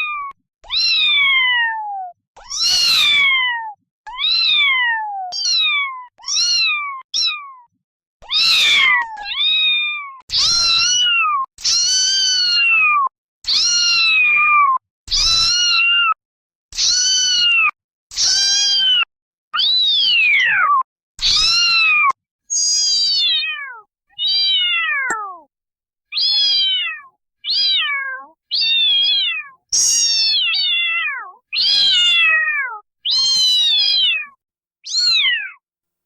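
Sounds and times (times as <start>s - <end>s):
kittens meowing: 0.0s - 7.6s, 8.2s - 16.2s, 16.8s - 25.5s, 26.1s - 35.6s.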